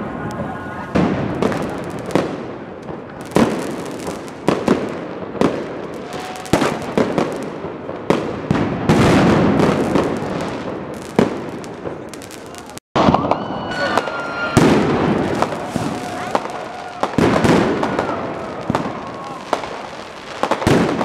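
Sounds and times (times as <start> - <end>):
distant firework bursts and crackle: 0.1 - 21.0
sharp firework bangs: 0.9 - 21.0.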